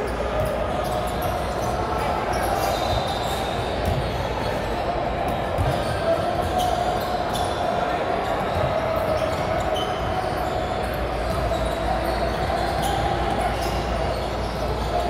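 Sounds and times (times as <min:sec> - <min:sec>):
murmur of many voices: 0:00.0 - 0:15.0.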